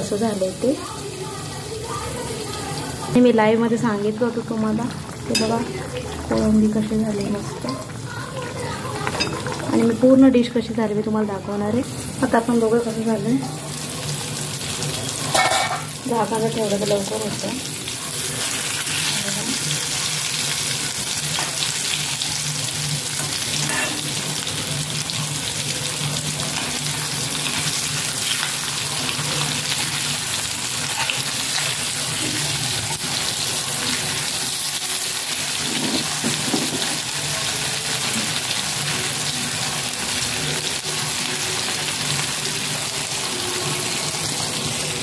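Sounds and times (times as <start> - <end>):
fish sizzling in oil: 0.0 - 45.0.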